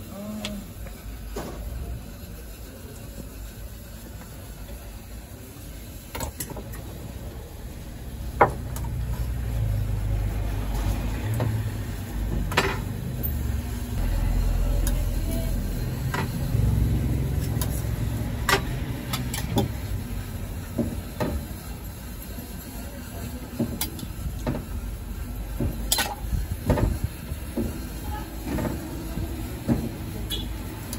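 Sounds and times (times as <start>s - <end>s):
vehicle engine rumble: 5.7s - 30.9s.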